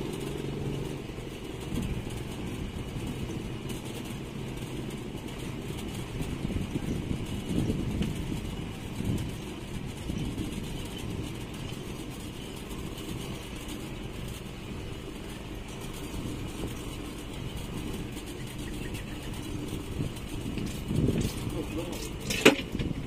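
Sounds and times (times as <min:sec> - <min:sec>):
outboard motors running: 0:00.0 - 0:23.0
wind: 0:00.0 - 0:23.0.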